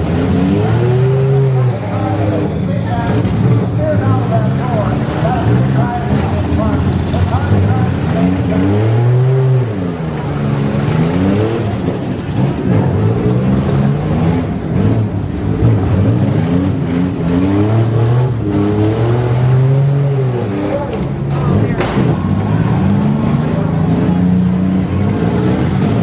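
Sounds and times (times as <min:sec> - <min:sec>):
minivan engines revving: 0:00.0 - 0:26.0.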